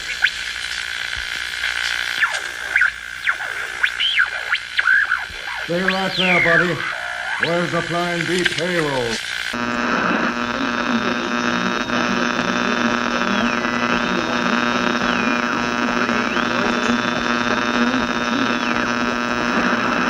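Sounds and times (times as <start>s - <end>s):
crackling radio static: 0.0s - 20.0s
mains hum: 0.0s - 20.0s.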